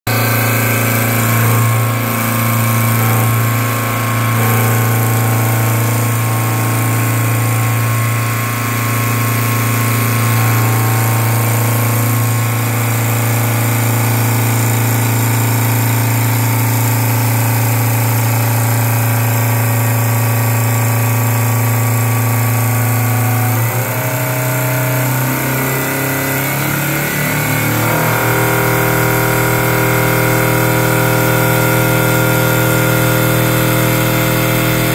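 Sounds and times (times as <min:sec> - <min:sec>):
wood lathe motors humming: 0:00.1 - 0:34.9.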